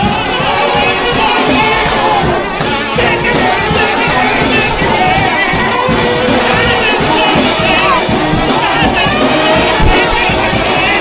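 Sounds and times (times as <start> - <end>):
drum and cymbal beat: 0.0 - 11.0
trombone band playing gospel tune: 0.0 - 11.0.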